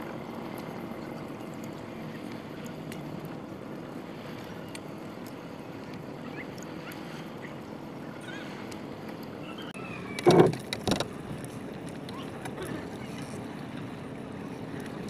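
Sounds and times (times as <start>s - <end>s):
water lapping against canoe: 0.0s - 15.0s.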